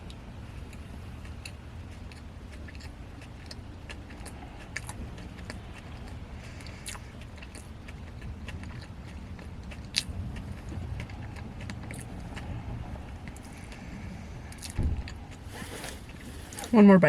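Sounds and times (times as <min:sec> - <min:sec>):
person chewing: 0:00.0 - 0:16.7
steady low hum: 0:00.0 - 0:17.0.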